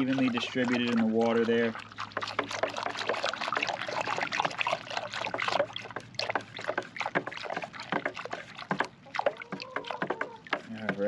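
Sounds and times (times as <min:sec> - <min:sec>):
stick stirring water in bucket: 0:00.0 - 0:11.0.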